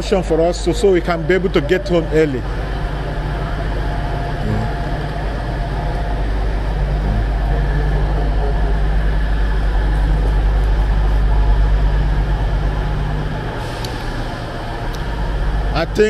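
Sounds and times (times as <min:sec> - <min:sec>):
diesel trains idling: 0:00.0 - 0:16.0.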